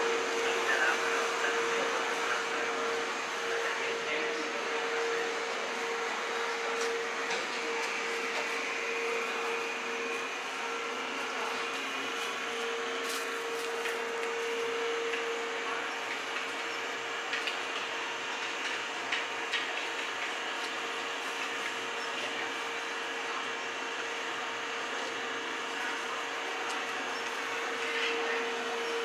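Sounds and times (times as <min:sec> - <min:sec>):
train equipment humming: 0:00.0 - 0:29.0
train equipment whirring: 0:00.0 - 0:29.0.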